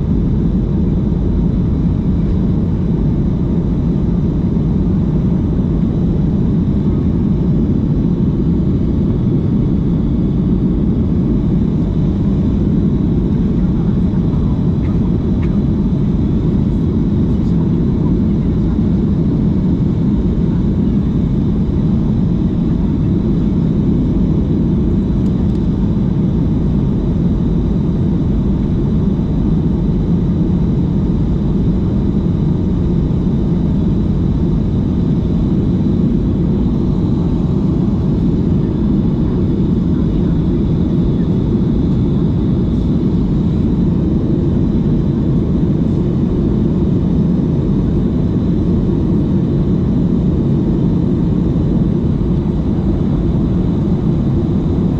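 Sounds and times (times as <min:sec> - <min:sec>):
jet engines droning: 0:00.0 - 0:54.9.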